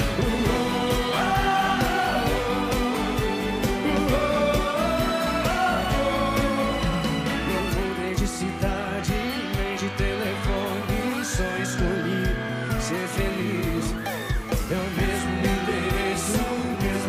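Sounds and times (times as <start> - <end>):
live pop band music: 0.0 - 17.0.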